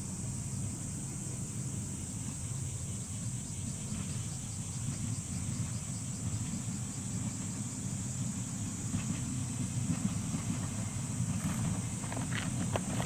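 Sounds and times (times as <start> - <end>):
rhythmic insect chirping: 0.0 - 12.7
distant electric train rumble: 0.0 - 13.0
high insect drone: 0.0 - 13.0.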